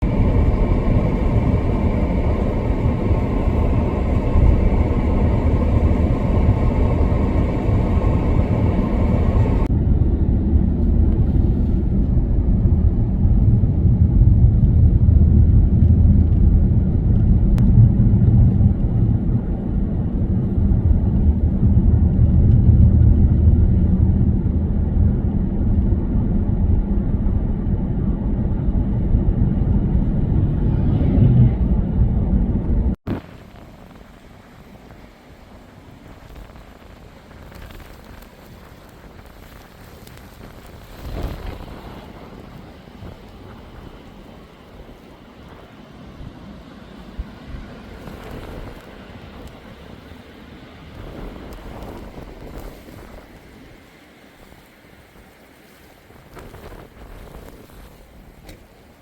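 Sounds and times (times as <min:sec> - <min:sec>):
car driving on snowy road: 0:00.0 - 0:59.0.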